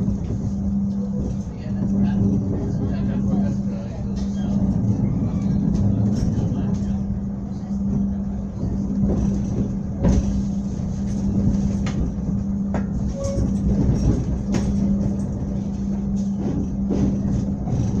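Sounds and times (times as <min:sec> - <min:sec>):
train carriage running hum: 0:00.0 - 0:18.0.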